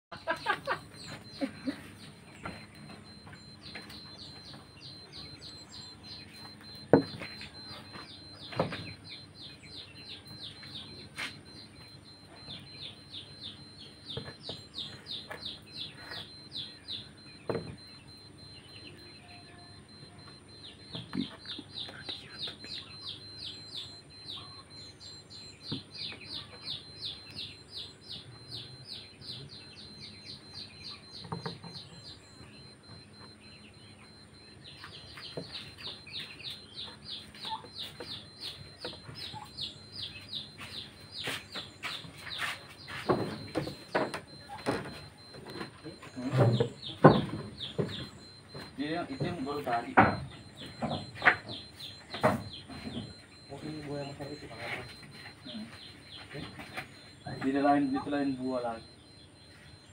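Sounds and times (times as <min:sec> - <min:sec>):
bird chirping rapidly: 0:00.2 - 0:59.9.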